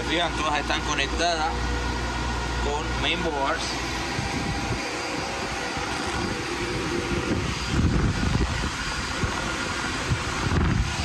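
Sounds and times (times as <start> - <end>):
cooling fans whirring: 0.0 - 11.0
whining tones: 0.0 - 11.0
low rumble: 1.5 - 11.0.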